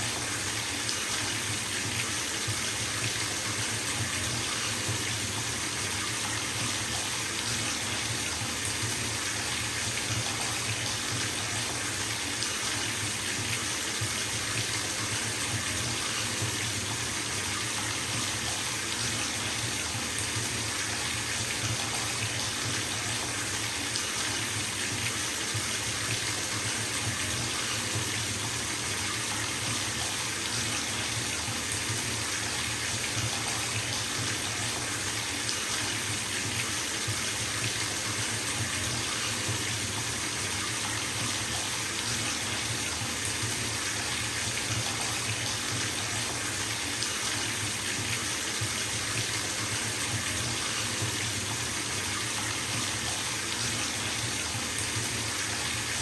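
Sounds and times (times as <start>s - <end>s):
tap water filling bathtub: 0.0s - 56.0s.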